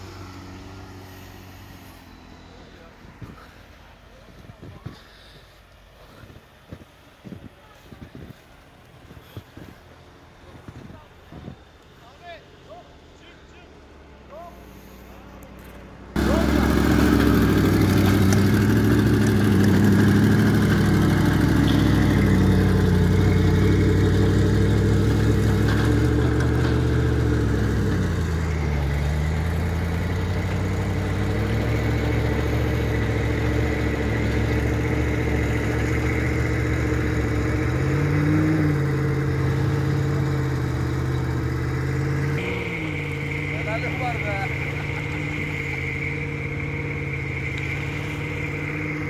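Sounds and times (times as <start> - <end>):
engines running under load: 0.0 - 49.0.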